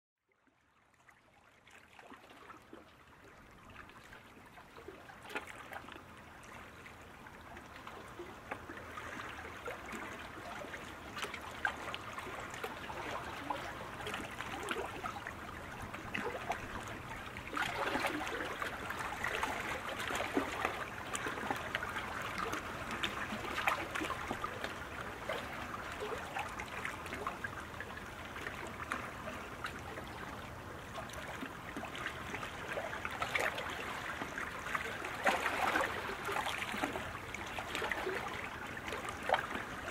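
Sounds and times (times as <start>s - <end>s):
aquarium water trickling and bubbling: 0.2s - 39.9s.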